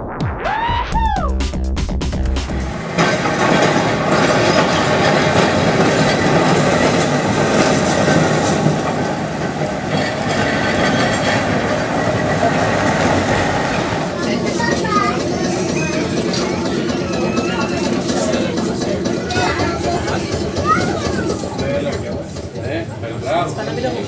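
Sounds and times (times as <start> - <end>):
tram wheels clattering over rails: 2.3 - 24.0.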